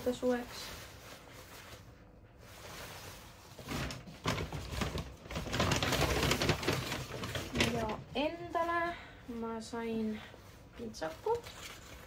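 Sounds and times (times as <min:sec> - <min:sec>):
rustling fabric: 0:00.0 - 0:12.0.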